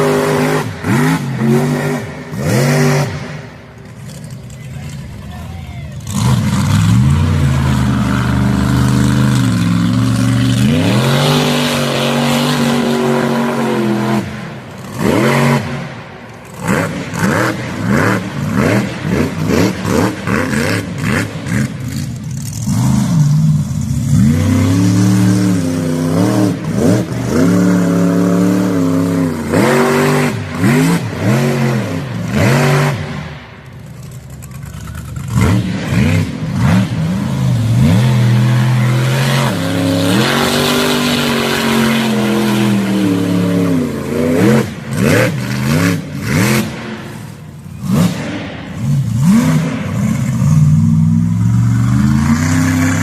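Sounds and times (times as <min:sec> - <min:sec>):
truck engine revving: 0:00.0 - 0:53.0.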